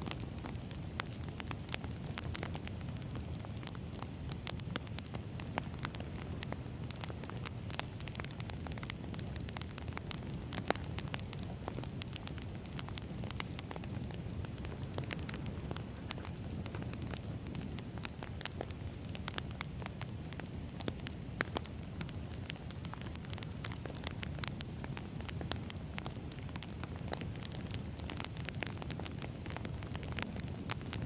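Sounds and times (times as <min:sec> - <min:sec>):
burning firewood crackling: 0:00.0 - 0:31.0.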